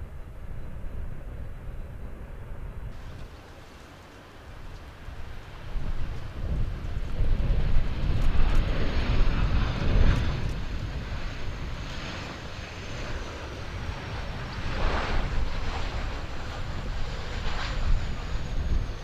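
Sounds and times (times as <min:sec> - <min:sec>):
jet engines rushing hiss: 0:00.0 - 0:19.0
wind rumble on microphone: 0:00.0 - 0:19.0.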